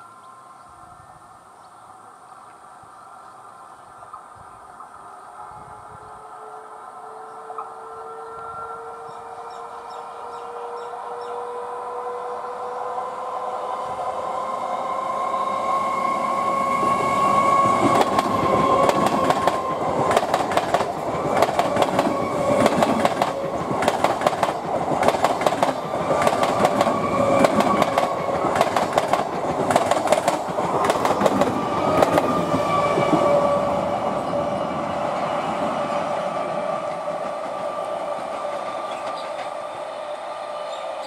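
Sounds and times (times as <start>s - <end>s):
train passing at speed: 0.0s - 41.0s.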